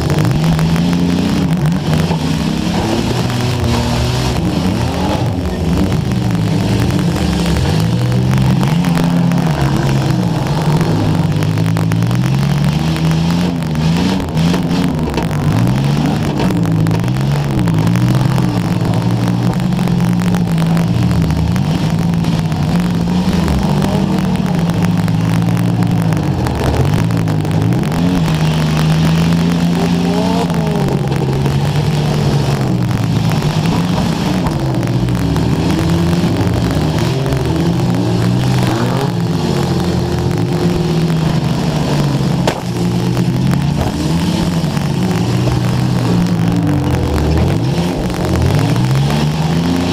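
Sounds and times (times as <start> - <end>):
car engines revving: 0.0 - 49.9
crackling microphone static: 0.0 - 49.9.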